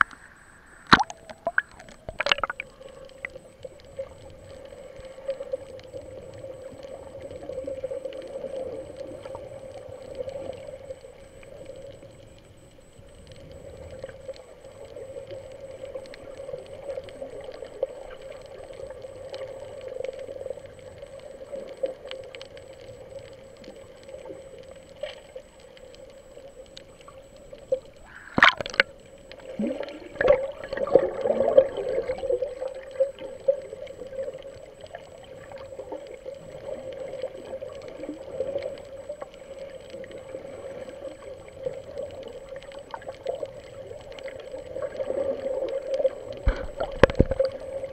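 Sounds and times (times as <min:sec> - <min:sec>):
faint clicks: 0:00.0 - 0:47.9
muffled underwater hum: 0:00.0 - 0:47.9
bubbling and gurgling: 0:00.9 - 0:12.3, 0:13.4 - 0:47.9.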